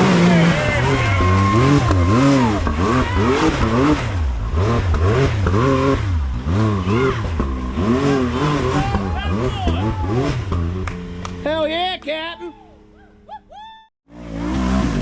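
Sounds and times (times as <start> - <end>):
utv engine revving: 0.0 - 11.7, 14.1 - 15.0.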